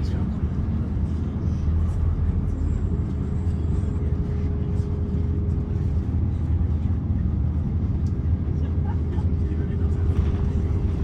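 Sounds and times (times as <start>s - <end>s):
aircraft cabin rumble: 0.0s - 11.0s.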